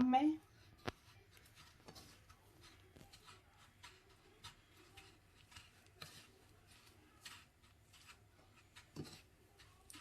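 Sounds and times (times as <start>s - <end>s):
breadcrumbs crackling under hand: 0.4s - 10.0s.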